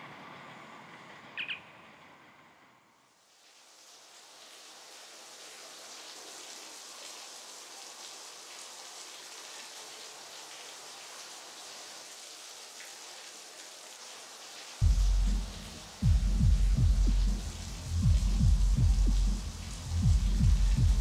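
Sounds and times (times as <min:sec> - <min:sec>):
light rain hissing: 0:03.1 - 0:21.0.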